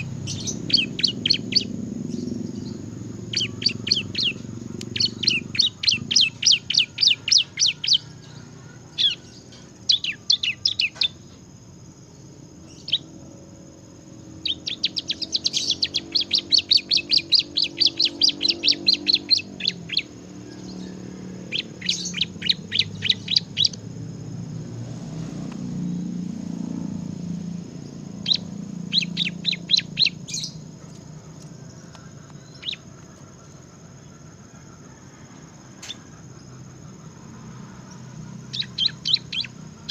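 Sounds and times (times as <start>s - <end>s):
bird singing sharp high chirps: 0.0s - 11.4s, 12.6s - 24.3s, 26.8s - 34.4s, 35.7s - 39.9s.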